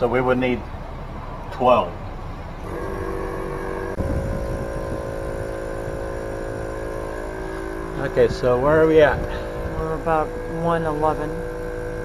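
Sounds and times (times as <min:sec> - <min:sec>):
air compressor motor hum: 0:02.3 - 0:12.0.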